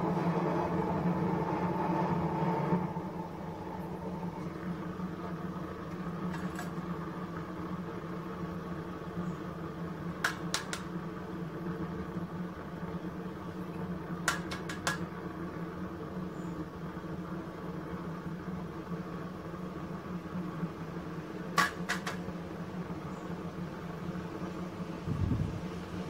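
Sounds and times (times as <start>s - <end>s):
propane burner humming: 0.0s - 26.0s.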